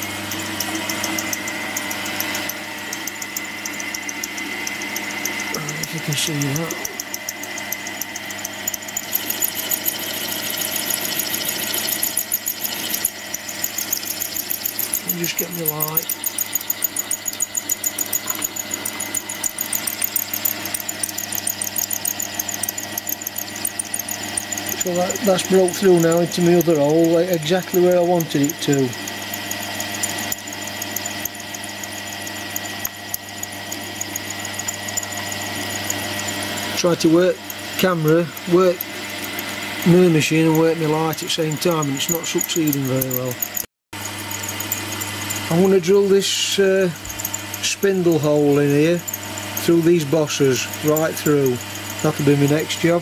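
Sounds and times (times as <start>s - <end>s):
milling machine drilling metal: 0.0s - 53.0s
rapid regular ticking: 0.0s - 53.0s.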